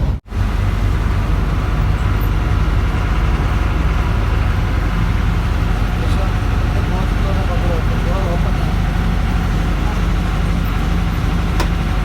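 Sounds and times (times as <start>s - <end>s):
bus engine rumble and road noise: 0.0s - 12.0s.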